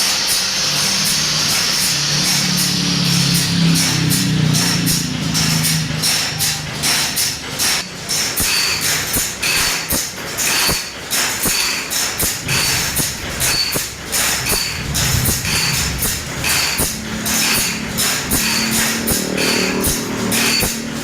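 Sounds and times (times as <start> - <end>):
high metallic ring: 0.4 - 21.0
metal file rasping on saw teeth: 1.1 - 20.9.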